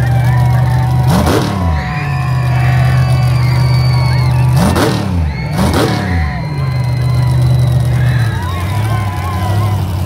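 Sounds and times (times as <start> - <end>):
truck engine idling and revving: 0.0 - 10.0.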